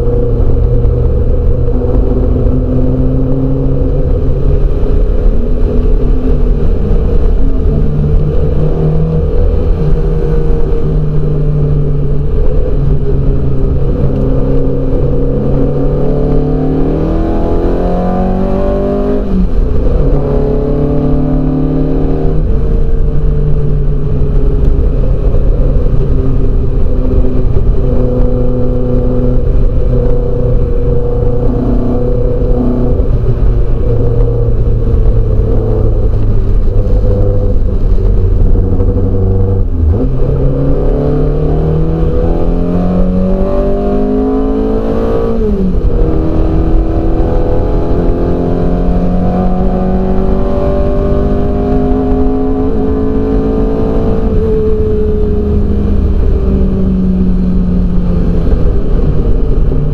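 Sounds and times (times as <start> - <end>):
low rumble: 0.0 - 59.9
race car engine accelerating: 0.0 - 59.9.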